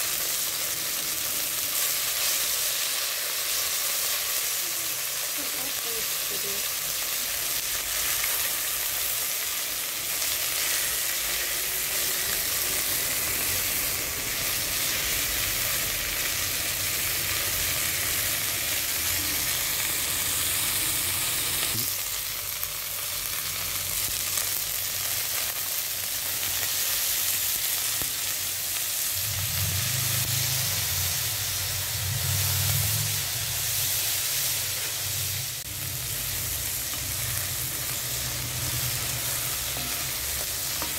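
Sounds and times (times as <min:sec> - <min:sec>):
chicken sizzling in a pot: 0:00.0 - 0:40.9.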